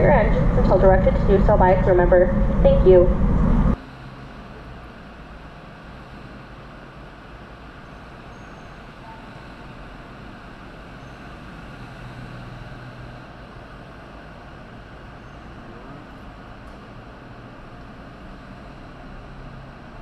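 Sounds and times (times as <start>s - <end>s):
ferry engine rumble: 0.0s - 20.0s.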